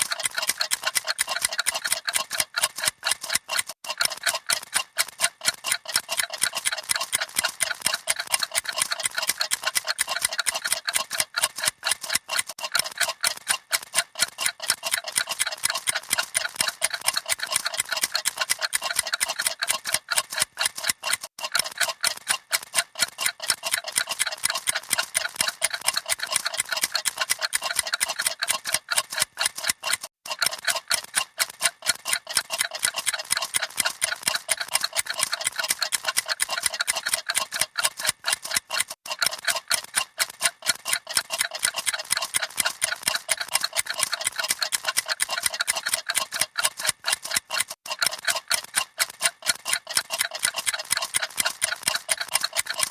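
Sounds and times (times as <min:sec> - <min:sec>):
clocks ticking: 0:00.0 - 0:52.9.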